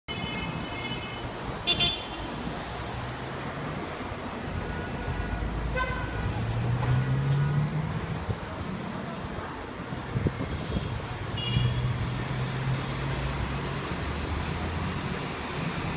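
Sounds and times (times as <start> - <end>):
rumble of traffic: 0.1 - 15.9.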